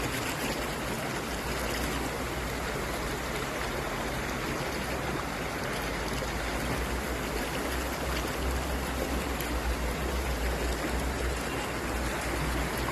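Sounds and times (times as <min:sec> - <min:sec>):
stream water rushing: 0:00.0 - 0:12.9.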